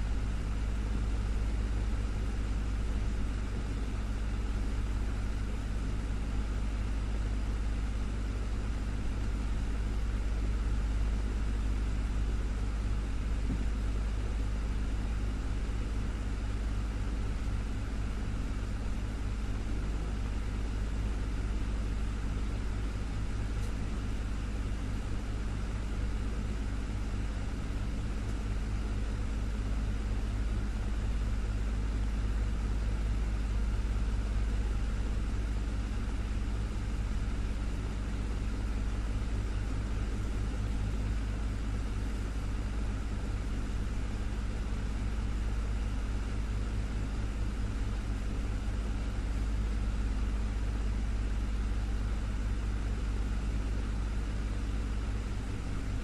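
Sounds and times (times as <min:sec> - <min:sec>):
desktop fan humming: 0:00.0 - 0:56.0.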